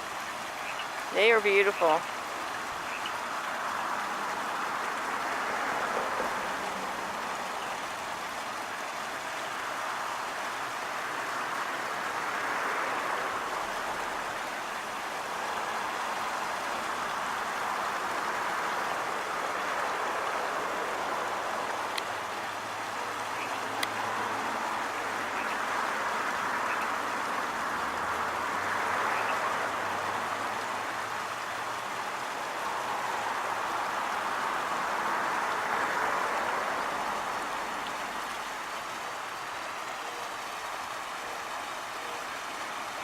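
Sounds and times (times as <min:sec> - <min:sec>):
stream water over small waterfall: 0:00.0 - 0:43.0.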